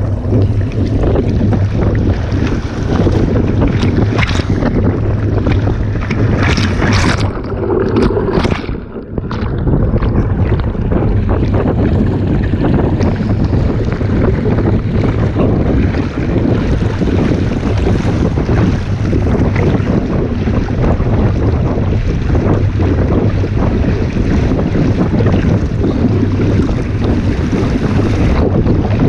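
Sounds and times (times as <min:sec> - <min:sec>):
rushing splashing water: 0:00.0 - 0:29.0
wind buffeting microphone: 0:00.0 - 0:29.0.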